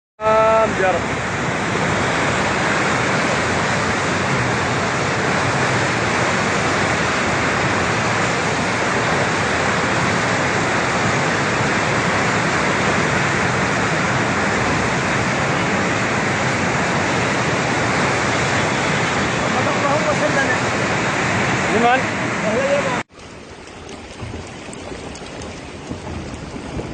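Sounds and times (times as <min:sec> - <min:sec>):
floodwater rushing: 0:00.2 - 0:26.9
heavy rain: 0:00.2 - 0:26.9.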